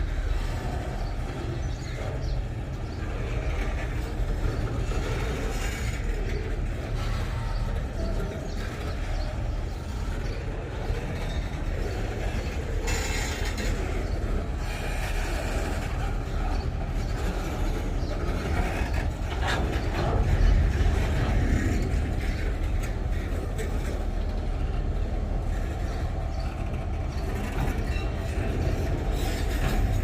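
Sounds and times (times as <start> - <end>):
freight train rumbling on rails: 0.0 - 30.0
train wagon clanks: 0.0 - 30.0.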